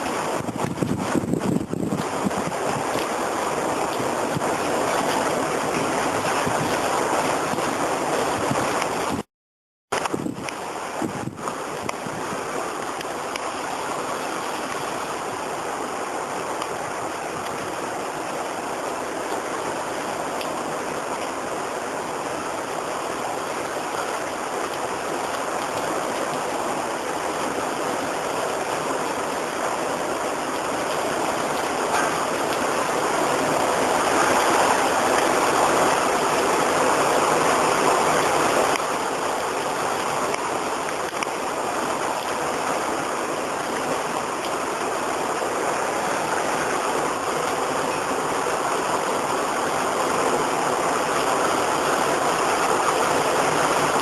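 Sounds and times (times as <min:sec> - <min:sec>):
heavy rain: 0:00.0 - 0:09.3, 0:09.9 - 0:54.0
wind: 0:00.0 - 0:09.3, 0:09.9 - 0:54.0.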